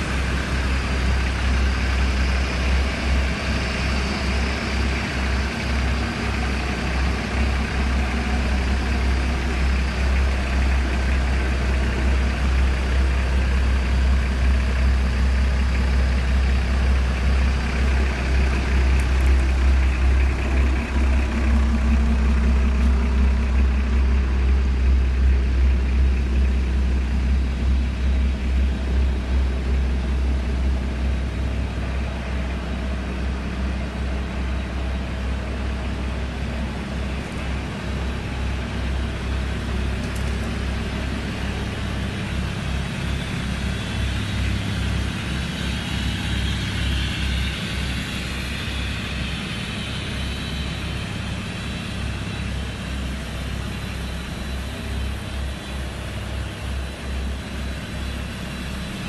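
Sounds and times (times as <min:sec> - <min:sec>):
car engines idling: 0:00.0 - 0:59.0.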